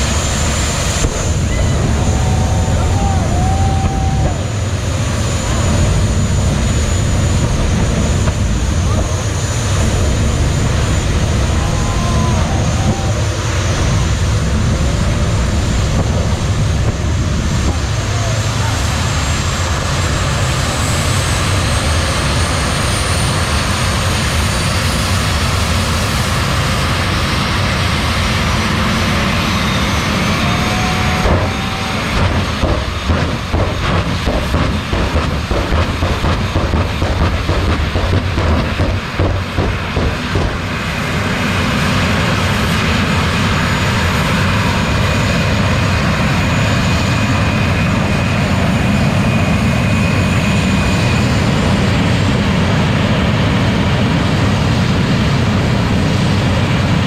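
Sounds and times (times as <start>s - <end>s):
jet engine with turbine whine: 0.0s - 57.0s.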